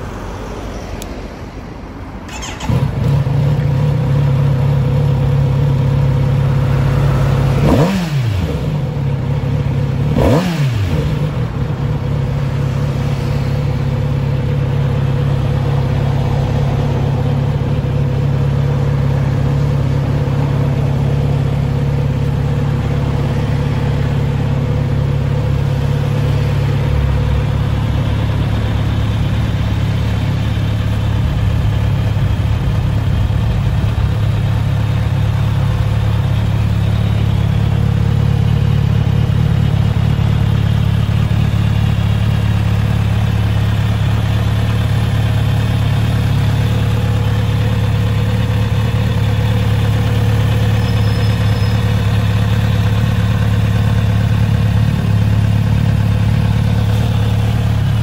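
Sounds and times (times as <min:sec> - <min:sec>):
motorcycle engine idling: 0:02.3 - 0:58.0.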